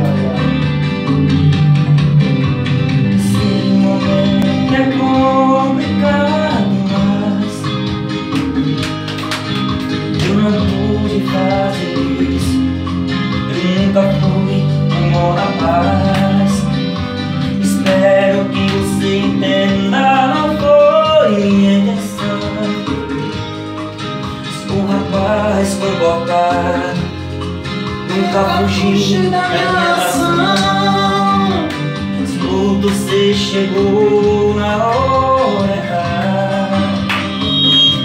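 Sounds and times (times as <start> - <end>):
guitar-led pop instrumental: 0.0 - 38.0.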